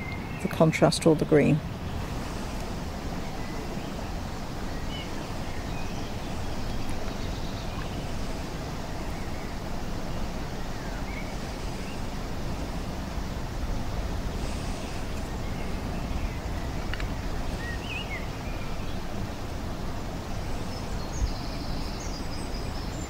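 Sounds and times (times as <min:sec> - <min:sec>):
even hiss: 0:00.0 - 0:23.0.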